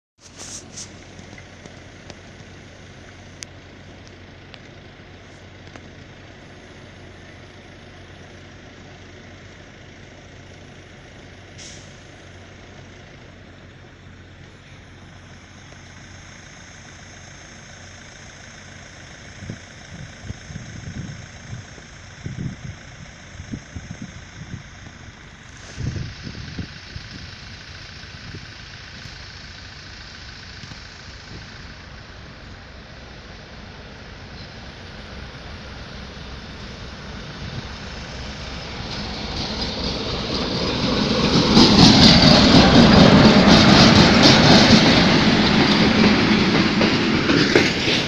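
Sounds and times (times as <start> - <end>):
diesel engine idling: 0.2 - 48.0.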